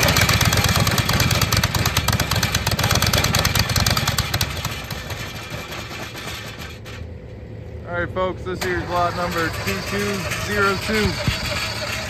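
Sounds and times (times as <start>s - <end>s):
small engine running: 0.0s - 7.1s, 8.6s - 12.0s.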